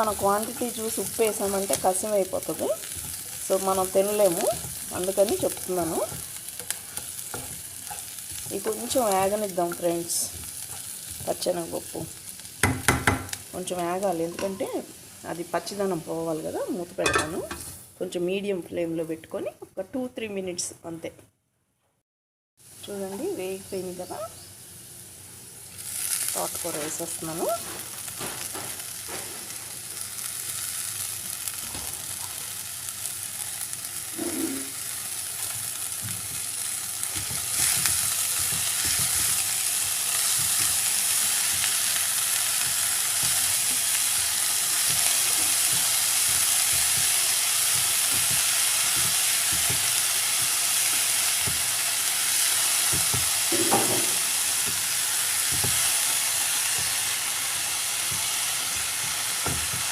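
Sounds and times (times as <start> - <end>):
leaves sizzling in hot oil: 0.0 - 18.1, 22.6 - 59.9.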